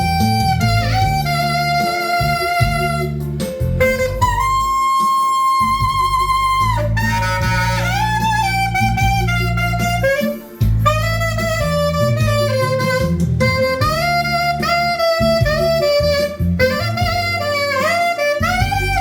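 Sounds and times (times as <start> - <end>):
backing track with bass: 0.0 - 19.0
saxophone melody: 0.0 - 19.0.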